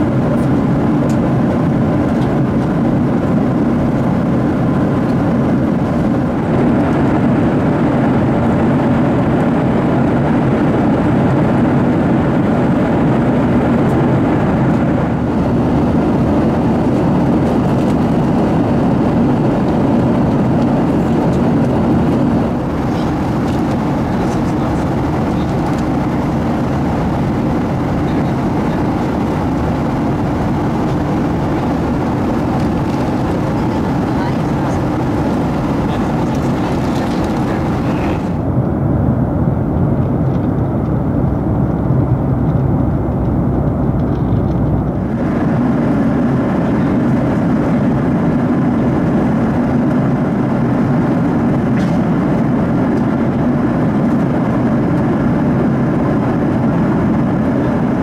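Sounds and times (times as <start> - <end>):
airplane cabin rush: 0.0 - 58.0
low engine drone: 0.0 - 58.0.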